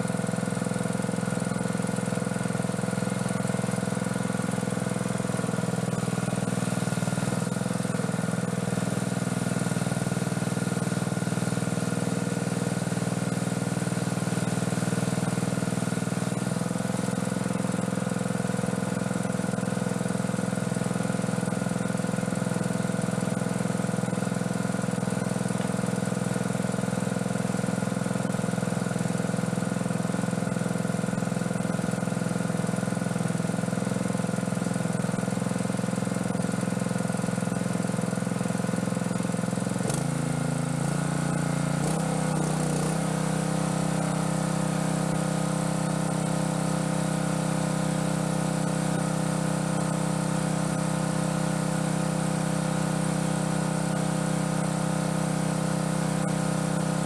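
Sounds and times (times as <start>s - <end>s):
gasoline engine water pump running: 0.0s - 57.0s.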